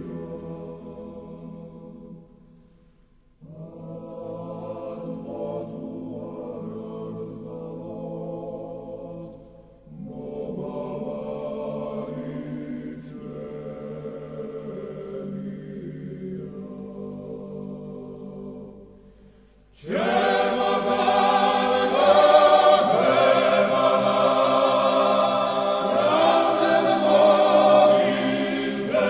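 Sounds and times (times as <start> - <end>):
choral chant: 0.0 - 2.8, 3.4 - 29.0.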